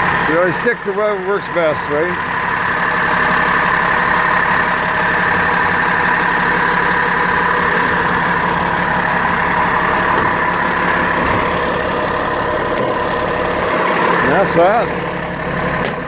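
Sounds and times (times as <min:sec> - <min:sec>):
bus diesel engine idling: 0:00.0 - 0:16.0.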